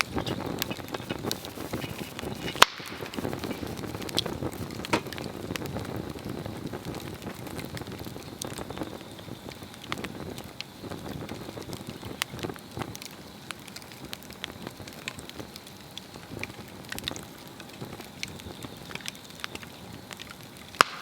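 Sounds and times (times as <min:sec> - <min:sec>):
fire crackling: 0:00.0 - 0:21.0
wood popping in fire: 0:00.0 - 0:21.0.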